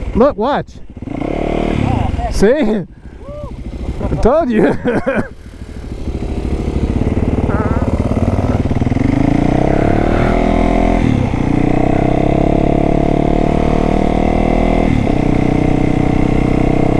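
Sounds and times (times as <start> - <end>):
dirt bike engine accelerating: 0.9 - 16.9.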